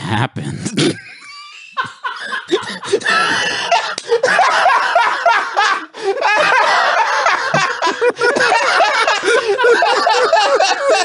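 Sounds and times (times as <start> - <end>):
men laughing: 0.8 - 11.0.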